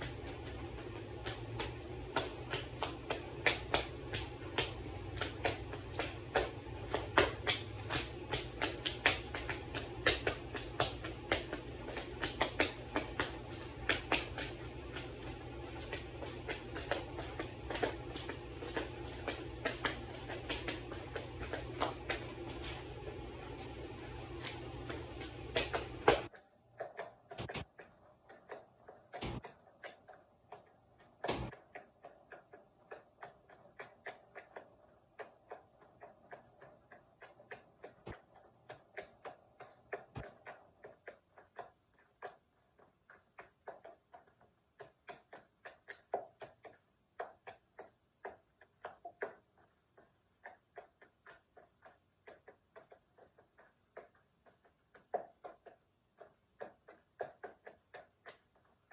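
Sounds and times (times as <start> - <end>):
tap dancing on hardwood floor: 0.0 - 58.9.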